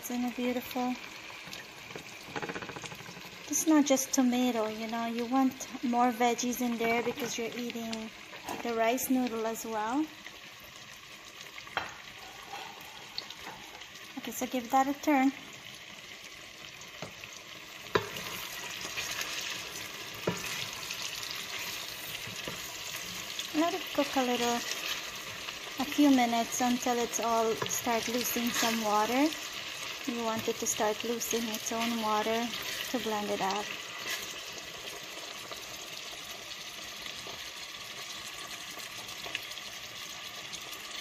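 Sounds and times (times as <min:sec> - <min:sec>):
vegetables sizzling in oil: 0:00.0 - 0:41.0.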